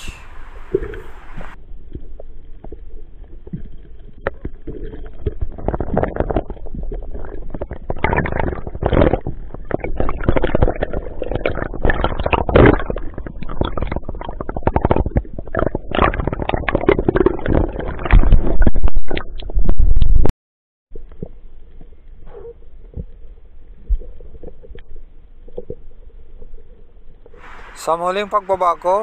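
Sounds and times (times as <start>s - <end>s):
underwater crackle and rumble: 0.1s - 20.3s, 20.9s - 29.0s.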